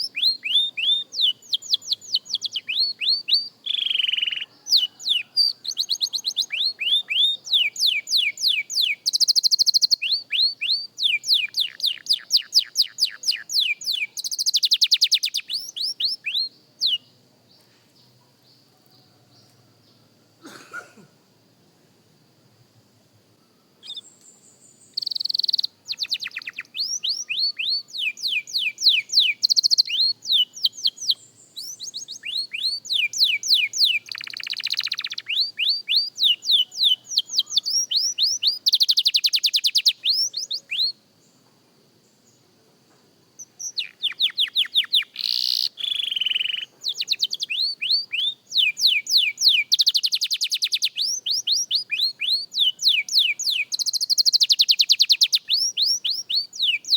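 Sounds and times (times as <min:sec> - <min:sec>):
canary singing trills: 0:00.0 - 0:20.1, 0:23.4 - 0:41.0, 0:43.4 - 0:56.9.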